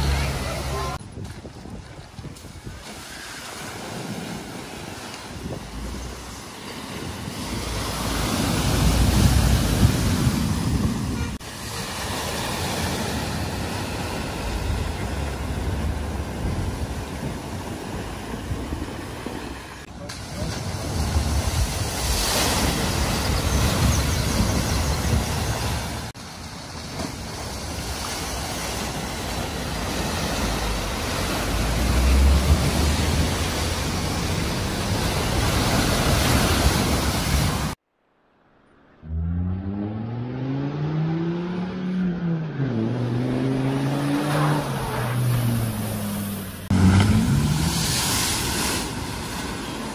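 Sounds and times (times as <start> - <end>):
car engines rumbling: 0.0 - 3.5, 5.0 - 37.8, 38.6 - 49.9
water splashing off car wheels: 0.0 - 37.8, 43.9 - 49.9.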